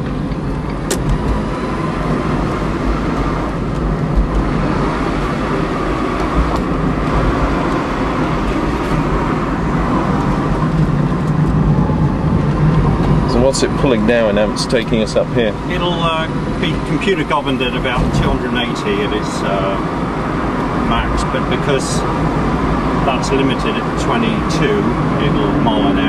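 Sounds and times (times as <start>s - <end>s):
road and tyre rumble: 0.0s - 26.0s.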